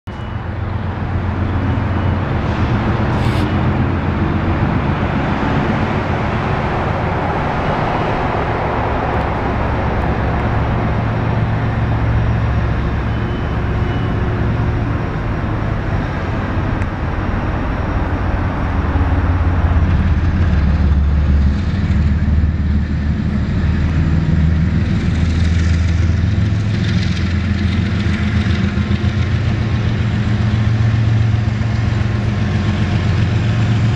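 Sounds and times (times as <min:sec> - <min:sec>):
diesel locomotive engines droning: 0:00.0 - 0:33.9
train rolling rumble: 0:00.1 - 0:33.9.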